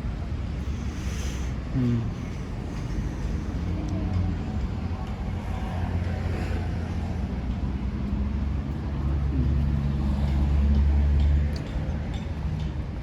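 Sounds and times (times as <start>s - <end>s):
large engine humming: 0.0s - 13.0s.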